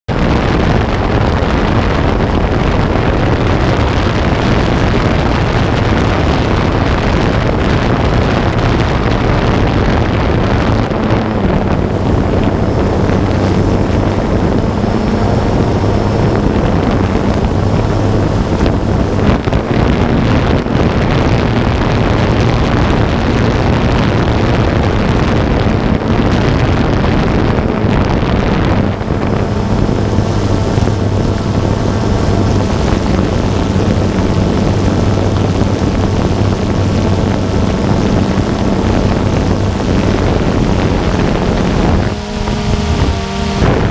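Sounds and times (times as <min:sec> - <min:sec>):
wind rushing over microphone: 0:00.0 - 0:43.9
drone propellers humming: 0:00.1 - 0:43.9.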